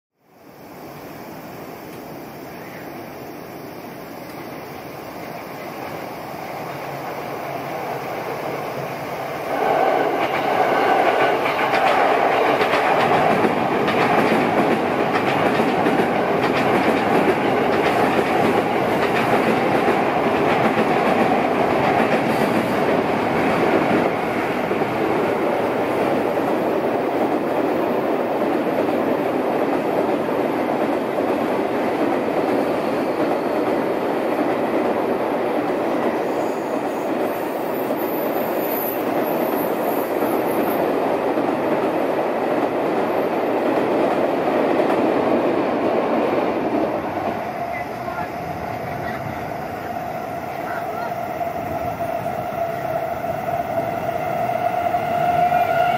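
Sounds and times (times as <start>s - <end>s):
train wheels rumbling on rails: 0.9s - 55.9s.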